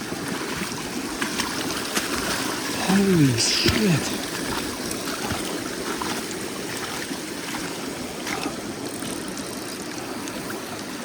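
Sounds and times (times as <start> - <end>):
creek rushing over rocks: 0.0 - 8.8.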